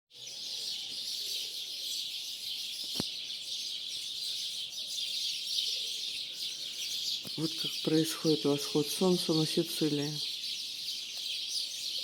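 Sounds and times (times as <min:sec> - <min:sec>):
starlings chattering and whistling: 0:00.1 - 0:12.0.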